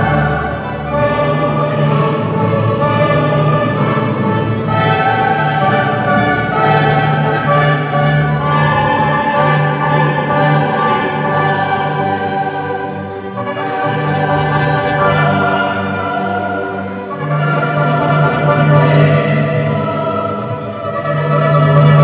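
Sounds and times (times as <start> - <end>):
choir singing: 0.0 - 22.0
orchestra playing: 0.0 - 22.0.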